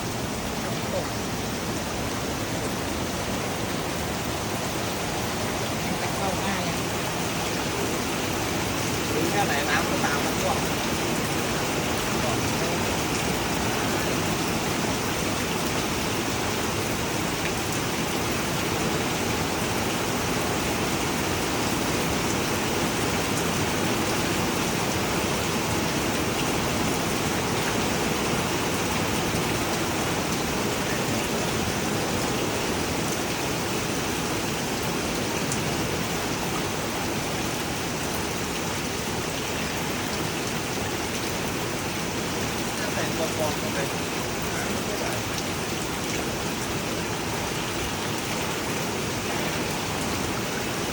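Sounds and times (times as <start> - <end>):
rain on a flat roof: 0.0 - 50.9.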